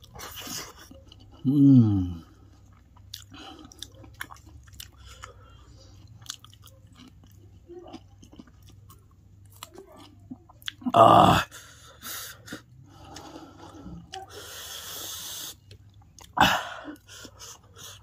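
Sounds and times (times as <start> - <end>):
chewing and crunching noodles: 0.0 - 18.0.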